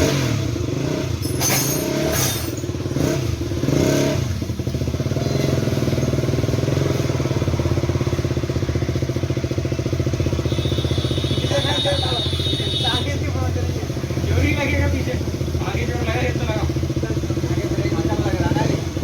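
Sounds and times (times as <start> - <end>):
motorcycle engine idling: 2.6 - 19.0.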